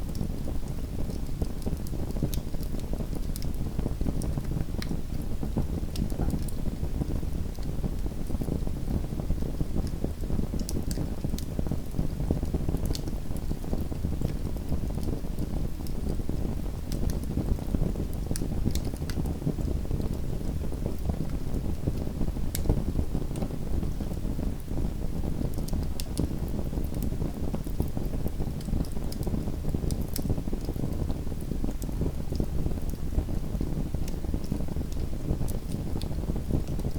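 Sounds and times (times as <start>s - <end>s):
fire crackling and popping: 0.0s - 36.9s
fire flames rumbling: 0.0s - 36.9s.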